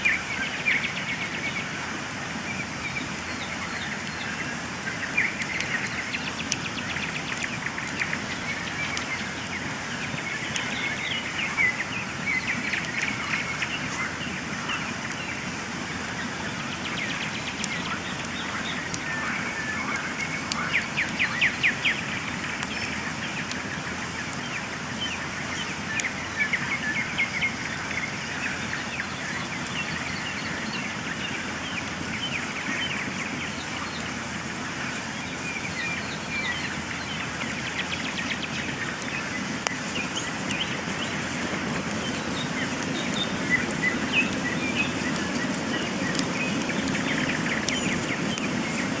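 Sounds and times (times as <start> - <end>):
songbirds chirping and trilling: 0.0 - 49.0.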